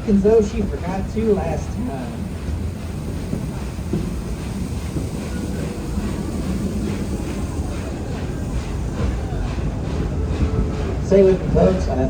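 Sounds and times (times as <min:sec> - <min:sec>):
train coaches rumbling on rails: 0:00.0 - 0:12.0.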